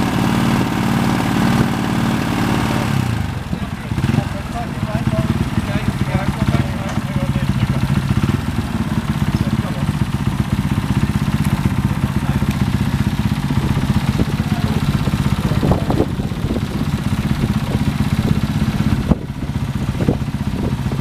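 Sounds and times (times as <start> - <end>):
motorcycle engine at steady revs: 0.0 - 21.0.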